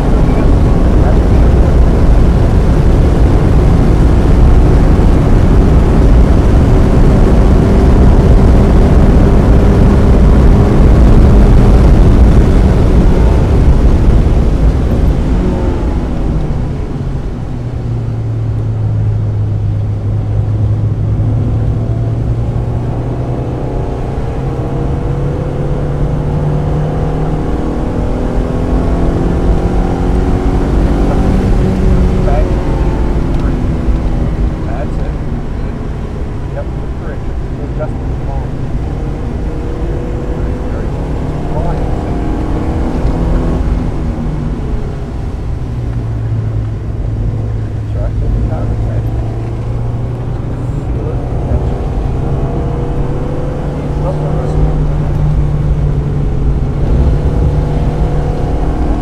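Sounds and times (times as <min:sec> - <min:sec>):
car engine under power: 0:00.0 - 0:59.0
tyre and road noise: 0:00.0 - 0:59.0.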